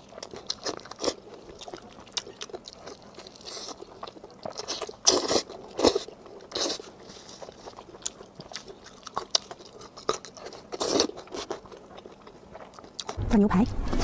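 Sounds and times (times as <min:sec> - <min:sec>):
chewing and crunching meat: 0:00.0 - 0:13.2.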